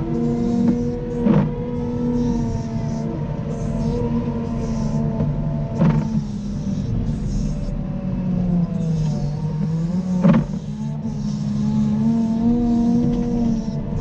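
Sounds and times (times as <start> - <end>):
wheel loader diesel engine: 0.0 - 14.0.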